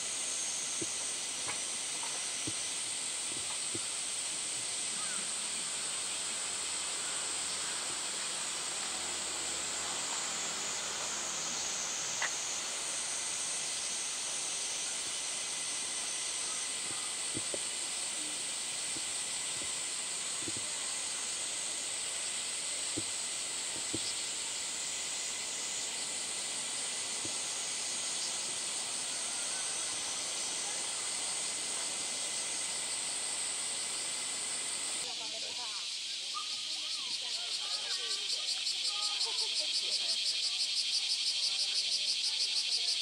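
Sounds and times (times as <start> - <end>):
cicada chorus: 0.0 - 43.0.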